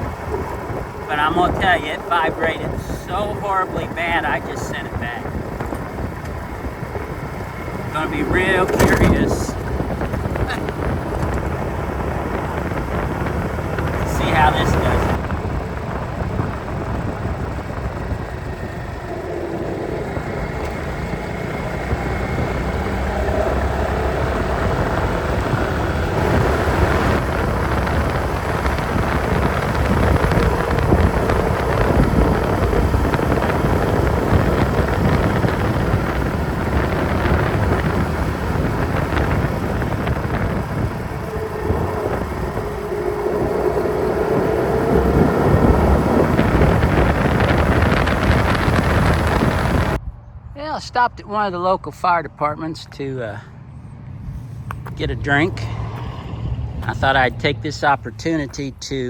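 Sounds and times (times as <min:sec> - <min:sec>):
scooter engine drone: 0:00.0 - 0:50.5, 0:53.4 - 0:59.0
wind rushing over microphone: 0:00.0 - 0:50.8, 0:53.4 - 0:59.0.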